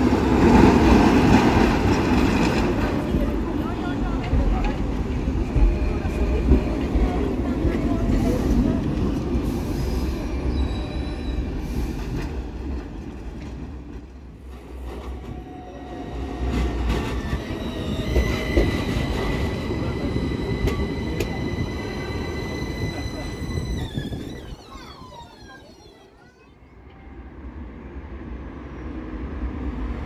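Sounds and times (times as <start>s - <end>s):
tram running past: 0.0s - 30.0s
tram wheel squeal: 0.5s - 13.0s, 14.6s - 27.0s.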